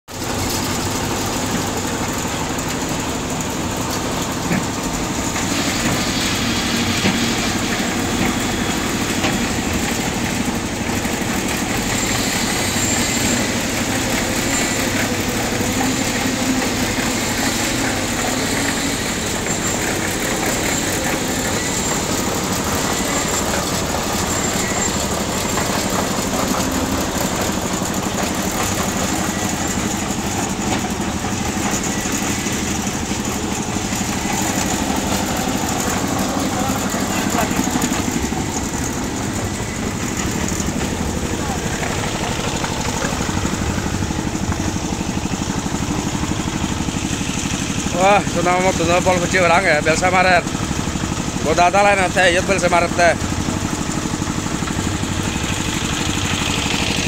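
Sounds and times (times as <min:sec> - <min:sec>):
concrete mixer engine running: 0:00.1 - 0:57.0.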